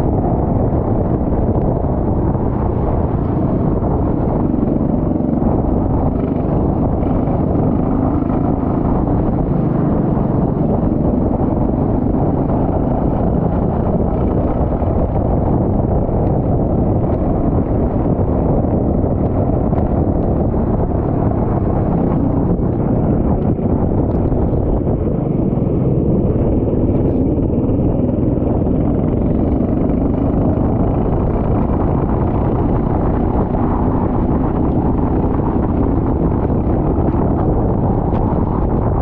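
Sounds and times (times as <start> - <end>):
go-kart engine running: 0.0 - 39.0
wind noise on microphone: 0.0 - 39.0.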